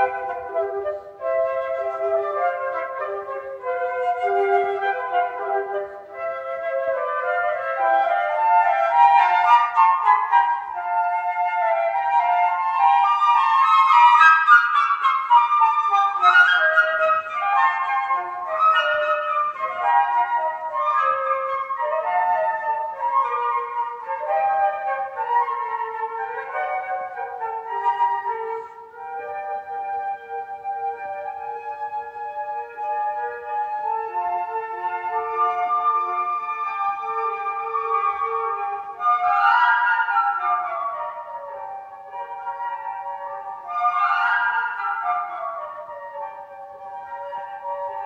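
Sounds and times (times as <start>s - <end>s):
flute duet: 0.0s - 48.0s.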